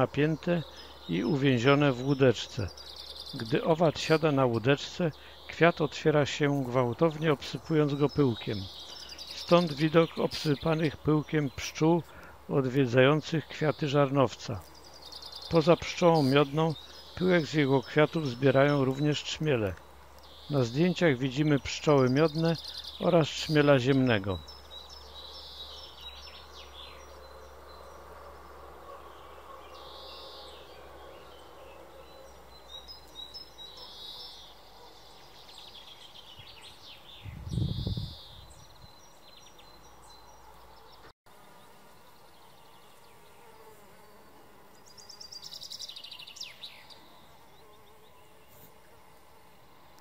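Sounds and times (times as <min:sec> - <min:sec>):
honeybees buzzing: 0:00.0 - 0:50.0.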